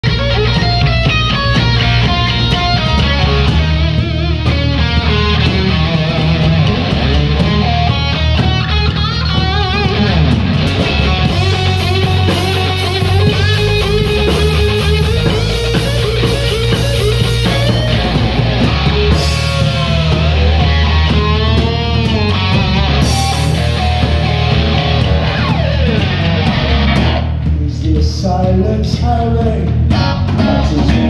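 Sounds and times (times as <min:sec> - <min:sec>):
electric guitar bending notes: 0:00.0 - 0:27.7, 0:29.4 - 0:31.0
bass guitar: 0:00.0 - 0:31.0
drums: 0:00.0 - 0:31.0.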